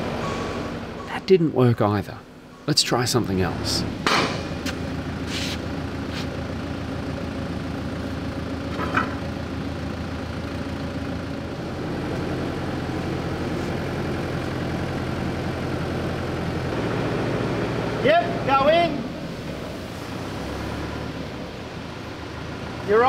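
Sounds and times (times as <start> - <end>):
forklift engine idling: 0.0 - 23.0.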